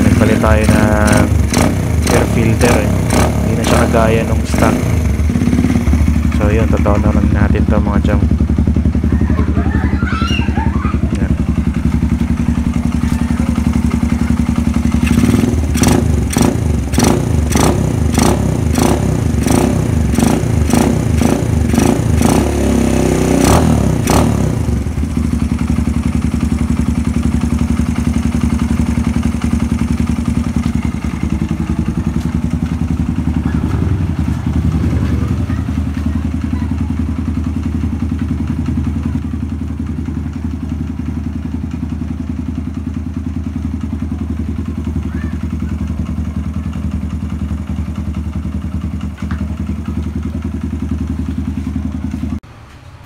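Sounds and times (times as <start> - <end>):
motorcycle engine running: 0.0 - 52.4.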